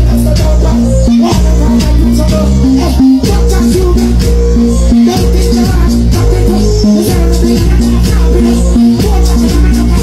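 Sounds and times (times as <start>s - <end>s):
loud live dancehall music: 0.0s - 10.0s.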